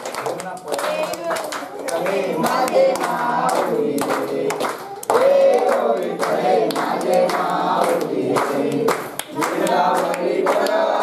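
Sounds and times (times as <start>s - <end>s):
hand claps: 0.0s - 11.0s
group singing devotional song: 1.1s - 11.0s.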